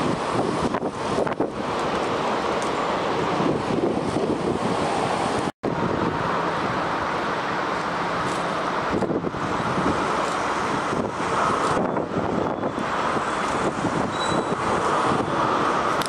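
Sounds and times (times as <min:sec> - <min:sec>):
jet engine roar: 0:00.0 - 0:16.0
wind buffeting microphone: 0:00.0 - 0:16.0.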